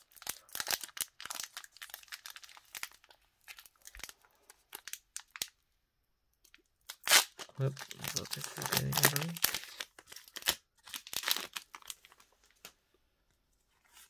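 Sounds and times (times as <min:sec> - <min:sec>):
foil wrapper crinkling and tearing: 0:00.0 - 0:05.6, 0:06.5 - 0:12.7.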